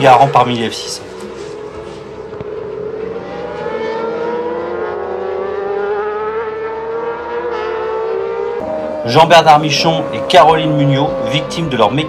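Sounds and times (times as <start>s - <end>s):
racing engine at high revs: 0.0s - 12.0s.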